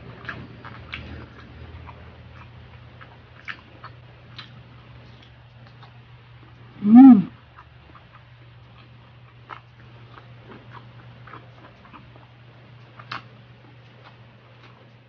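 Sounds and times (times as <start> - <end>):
steady low hum: 0.0 - 15.0
person chewing: 0.2 - 14.9.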